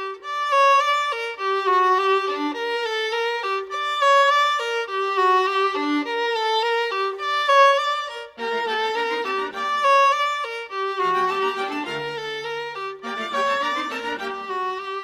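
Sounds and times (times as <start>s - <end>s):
instrumental melody: 0.0s - 15.0s.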